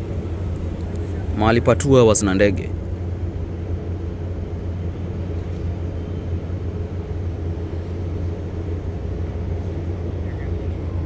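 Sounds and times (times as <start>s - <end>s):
ship engines droning: 0.0s - 11.0s.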